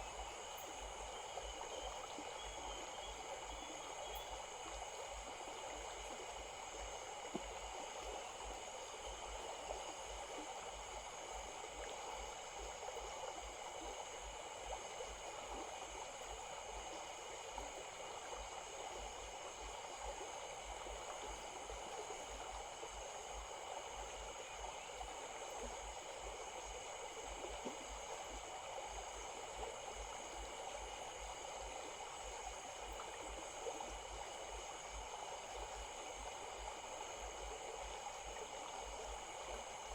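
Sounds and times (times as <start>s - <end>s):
faint high-pitched hum: 0.0s - 39.9s
stream flowing: 0.0s - 39.9s.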